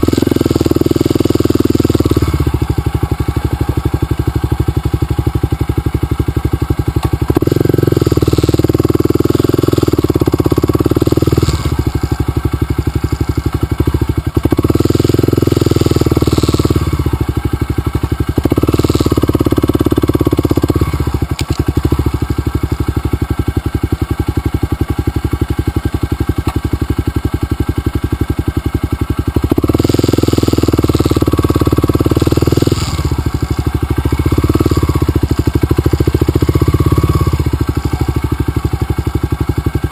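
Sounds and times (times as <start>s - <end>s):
dirt bike engine revving: 0.0s - 24.6s, 29.1s - 39.9s.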